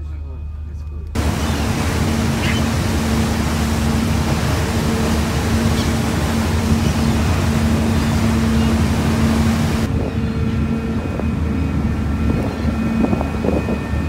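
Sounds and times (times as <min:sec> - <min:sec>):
wind: 0:00.0 - 0:14.0
boat engine humming: 0:00.4 - 0:14.0
churning wake rushing: 0:01.2 - 0:14.0.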